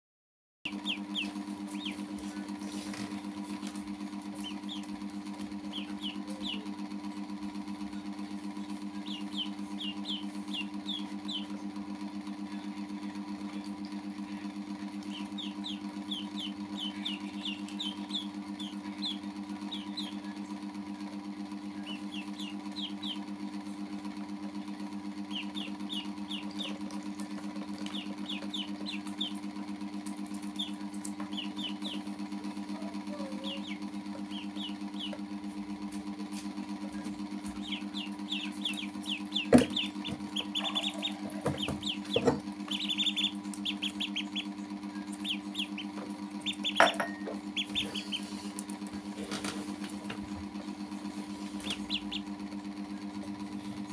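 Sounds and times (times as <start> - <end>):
ducklings peeping: 0.7 - 6.8, 8.5 - 11.7, 13.6 - 20.5, 21.6 - 23.4, 25.2 - 35.3, 36.5 - 53.9
steady low hum: 0.7 - 53.9.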